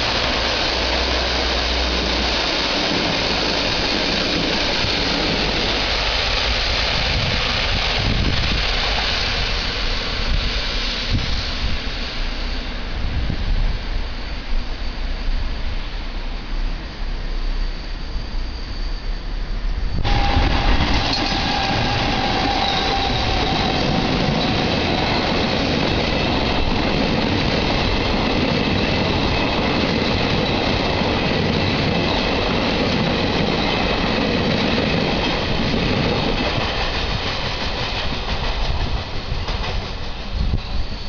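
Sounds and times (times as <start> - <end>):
high train whine: 0.0 - 41.0
train wheels rumbling on rails: 0.0 - 41.0.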